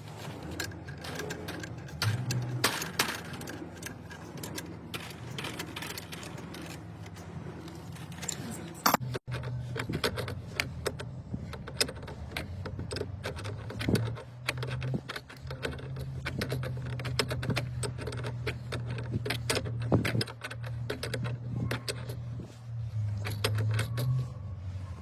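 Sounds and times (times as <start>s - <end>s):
metal tools clinking: 0.0s - 10.6s, 12.8s - 24.4s
steady low hum: 0.0s - 25.0s.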